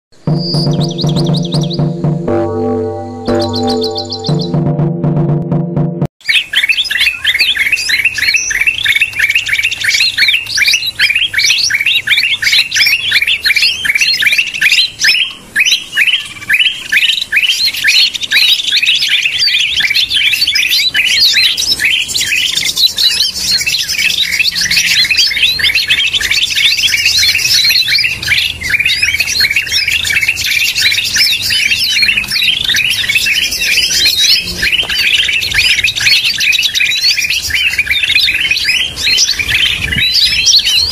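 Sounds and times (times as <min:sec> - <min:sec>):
bird chirping rapidly: 0:00.2 - 0:02.5, 0:03.1 - 0:04.8, 0:06.2 - 0:40.9.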